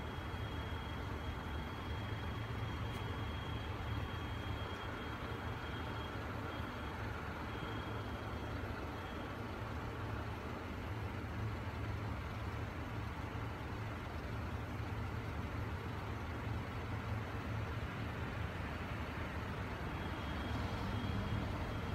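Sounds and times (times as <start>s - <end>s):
diesel railcar engine idling: 0.0s - 21.9s.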